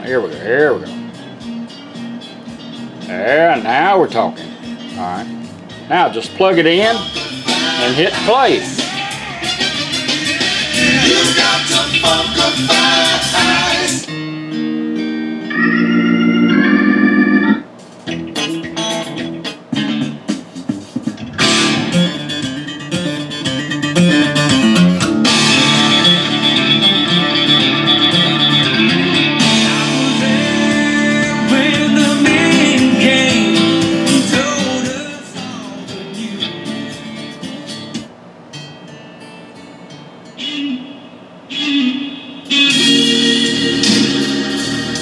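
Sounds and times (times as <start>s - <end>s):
guitar music with singing on radio: 0.0s - 45.0s.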